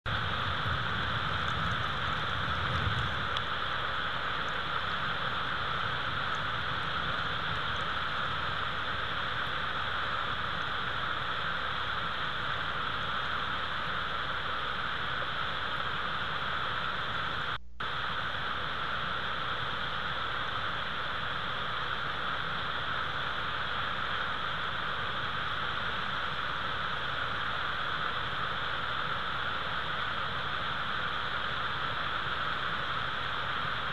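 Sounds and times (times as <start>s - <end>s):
steady microphone hiss: 0.1s - 33.9s.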